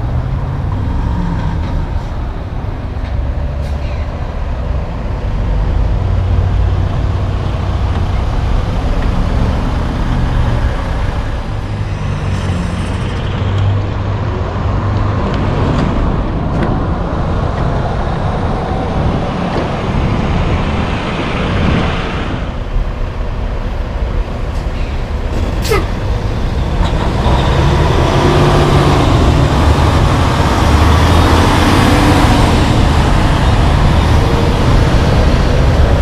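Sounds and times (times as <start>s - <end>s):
road traffic noise: 0.0s - 36.0s
truck engine rumbling: 0.0s - 36.0s.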